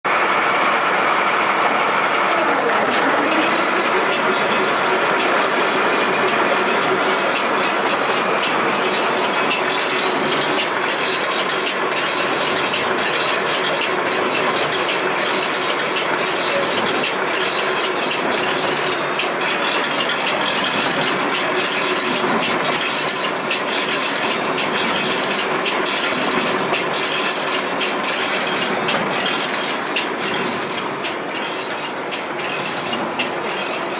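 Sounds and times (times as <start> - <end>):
baler clattering: 2.9 - 33.9.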